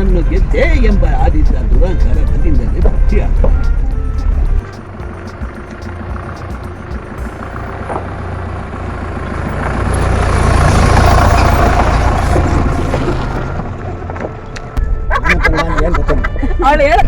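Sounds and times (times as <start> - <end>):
vehicle engine running: 0.0 - 15.2
road rumble: 0.0 - 17.0.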